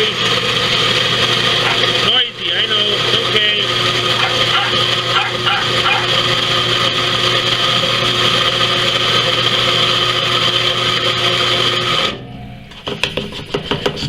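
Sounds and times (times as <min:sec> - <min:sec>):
electric coffee grinder grinding: 0:00.0 - 0:12.2.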